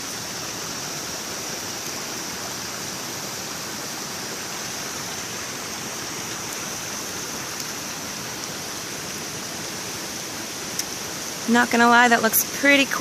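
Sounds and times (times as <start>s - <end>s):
river rushing over waterfalls: 0.0s - 13.0s.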